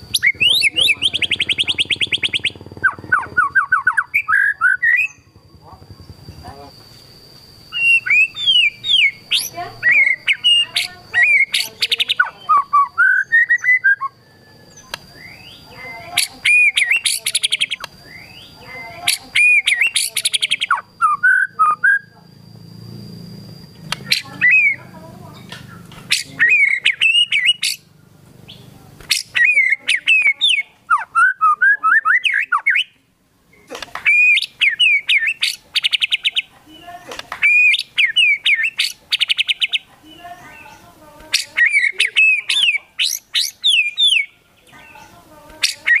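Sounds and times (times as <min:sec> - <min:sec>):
songbird whistling and trilling: 0:00.0 - 0:05.3, 0:07.7 - 0:22.1, 0:23.9 - 0:27.9, 0:28.5 - 0:33.0, 0:34.0 - 0:46.0.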